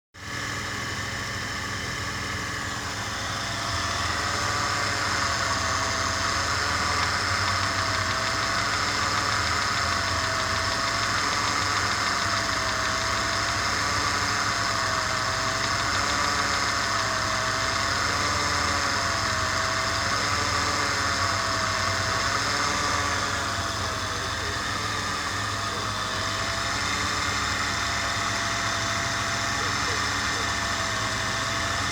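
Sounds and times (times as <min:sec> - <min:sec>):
engine running with rod knock: 0:00.2 - 0:31.9.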